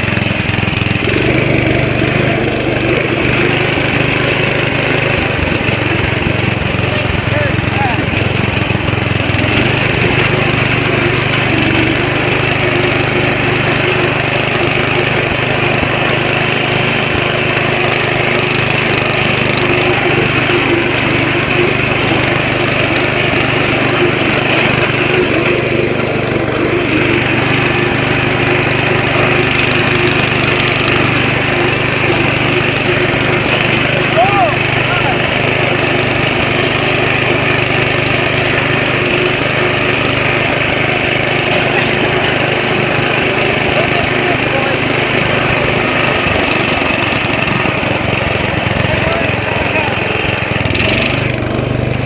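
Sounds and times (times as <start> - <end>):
lawn mower engine running: 0.0 - 52.0.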